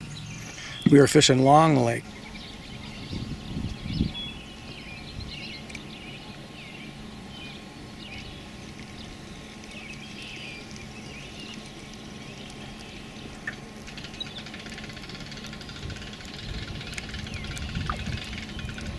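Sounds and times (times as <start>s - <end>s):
birds chirping: 0.0s - 18.9s
steady low hum: 0.0s - 18.9s.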